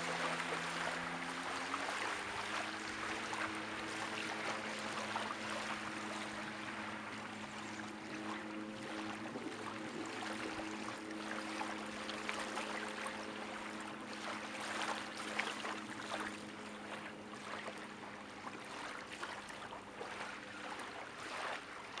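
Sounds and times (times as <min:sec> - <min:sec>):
low steady hum: 0:00.0 - 0:22.0
waves lapping on beach: 0:00.0 - 0:22.0.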